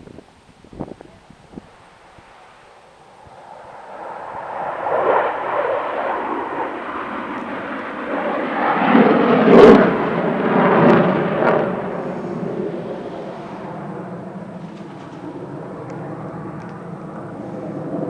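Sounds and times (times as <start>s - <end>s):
fighter jets roaring past: 1.3s - 18.0s.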